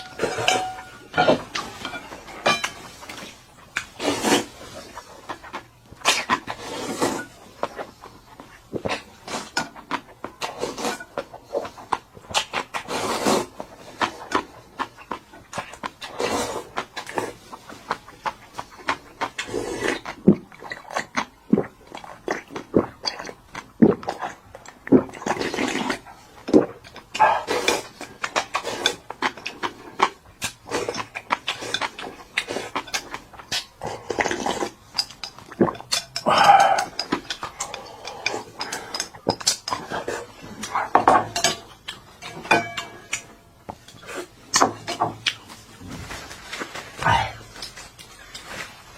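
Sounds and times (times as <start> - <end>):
chewing: 0.0 - 48.9.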